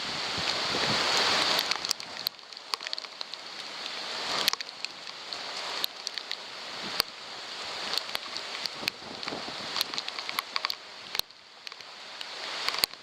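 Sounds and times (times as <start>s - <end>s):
rain and gusting wind: 0.0s - 13.0s
raindrops ticking on microphone: 0.0s - 13.0s.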